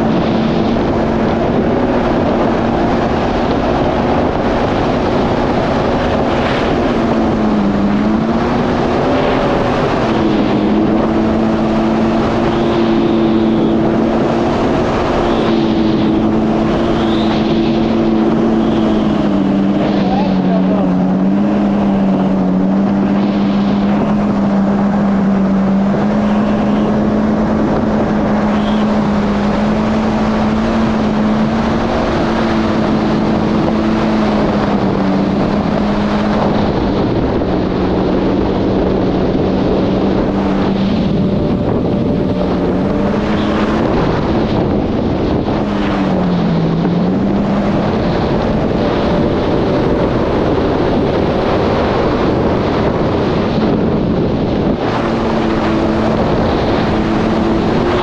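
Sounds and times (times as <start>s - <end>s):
jet ski engine running: 0.0s - 58.0s
wind buffeting microphone: 0.0s - 58.0s.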